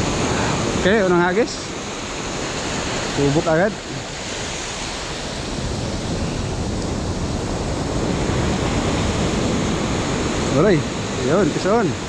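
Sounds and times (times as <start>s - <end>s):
ocean surf breaking on sand: 0.0s - 12.0s.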